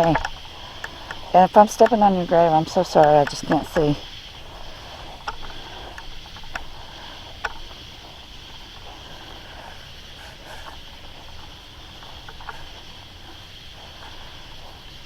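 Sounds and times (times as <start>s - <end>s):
night insects buzzing: 0.0s - 15.0s.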